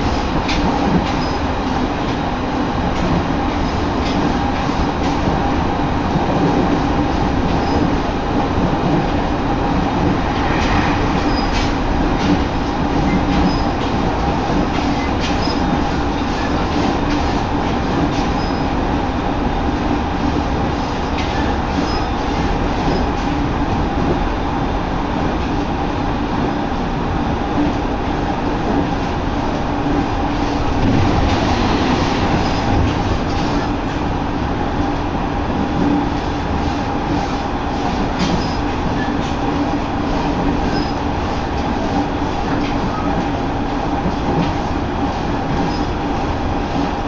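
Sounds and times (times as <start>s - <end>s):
train rumble: 0.0s - 47.0s.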